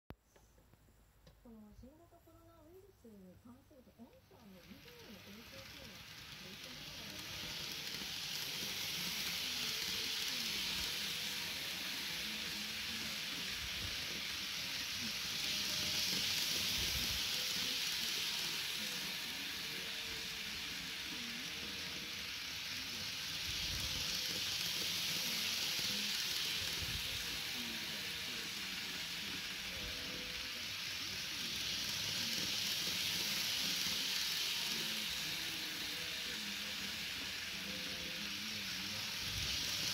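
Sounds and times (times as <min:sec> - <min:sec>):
model train whirring on rails: 0:03.5 - 0:39.9.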